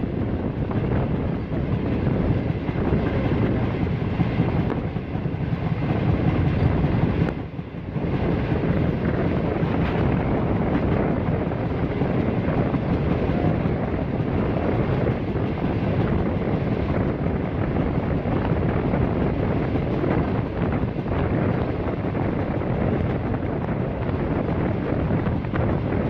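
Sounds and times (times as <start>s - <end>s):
train rumbling: 0.0s - 26.0s
wind buffeting microphone: 0.0s - 26.0s.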